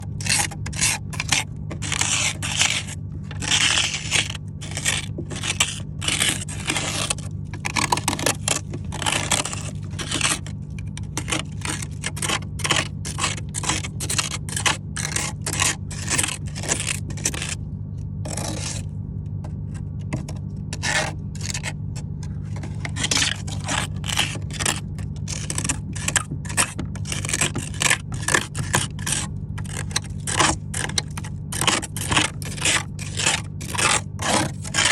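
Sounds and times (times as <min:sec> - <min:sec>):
scraping frost in freezer: 0:00.0 - 0:34.9
steady low hum: 0:00.0 - 0:34.9.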